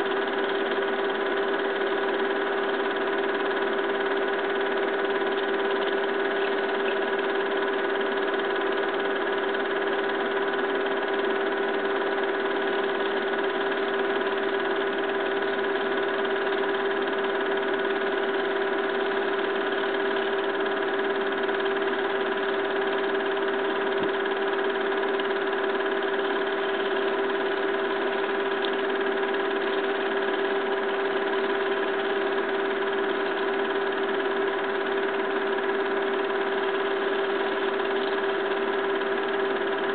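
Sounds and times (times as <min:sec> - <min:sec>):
motor hum with whine: 0:00.0 - 0:39.9.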